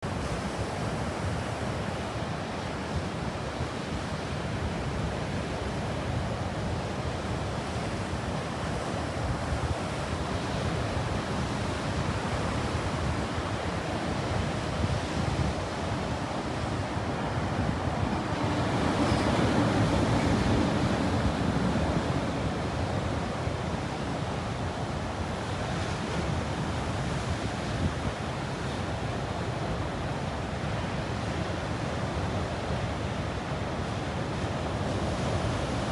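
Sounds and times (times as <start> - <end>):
wind on microphone: 0.1 - 33.6
ocean surf breaking on beach: 0.1 - 35.9.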